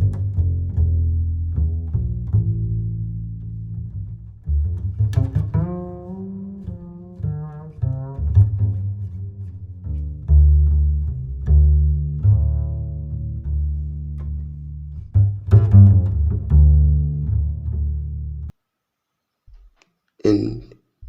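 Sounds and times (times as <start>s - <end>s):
plucked and bowed bass strings: 0.0s - 18.5s.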